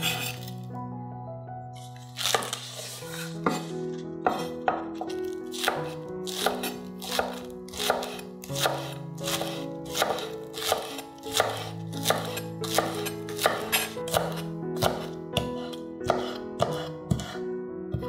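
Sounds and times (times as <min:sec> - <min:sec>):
soft background music: 0:00.0 - 0:18.0
knife chopping on wooden board: 0:02.2 - 0:18.0.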